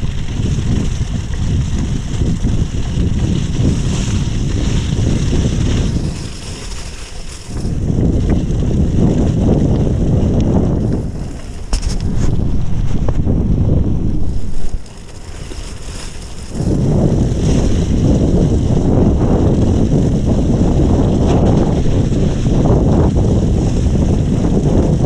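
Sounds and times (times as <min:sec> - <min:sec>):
tyres rolling on slushy gravel: 0:00.0 - 0:13.1, 0:14.2 - 0:25.0
wind rushing over microphone: 0:00.0 - 0:25.0.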